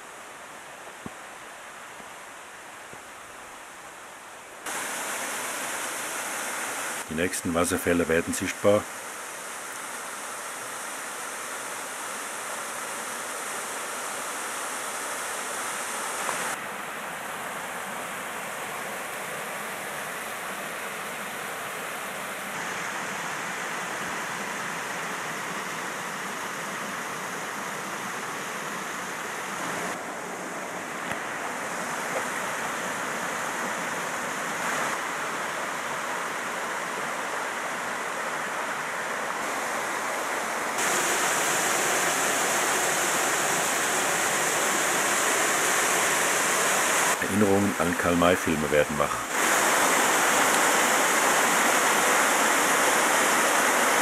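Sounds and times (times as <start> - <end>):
mountain stream rushing over waterfalls: 0.0 - 54.0.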